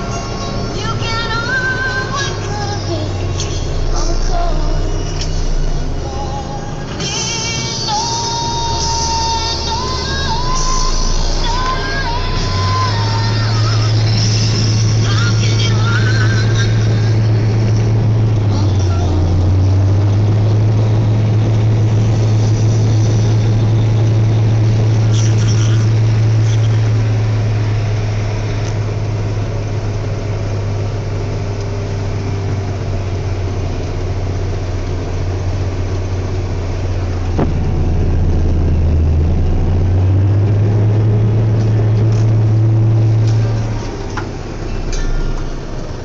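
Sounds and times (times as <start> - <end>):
tractor diesel engine drone: 0.0 - 46.0.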